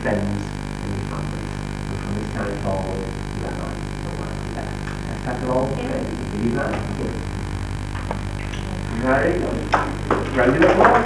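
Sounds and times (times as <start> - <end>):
steady low hum: 0.0 - 11.0
murmured voices: 1.0 - 11.0.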